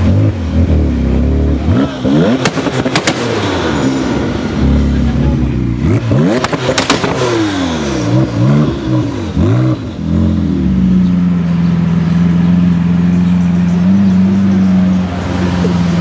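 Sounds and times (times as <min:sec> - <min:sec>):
car engine revving: 0:00.0 - 0:16.0
exhaust cracks: 0:00.0 - 0:16.0.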